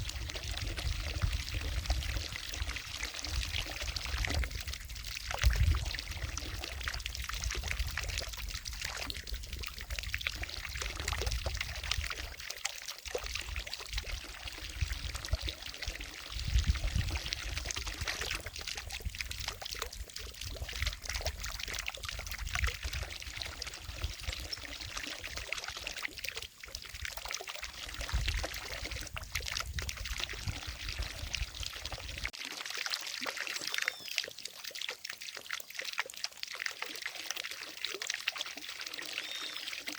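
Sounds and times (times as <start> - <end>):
fountain water splashing into lake: 0.0 - 39.9.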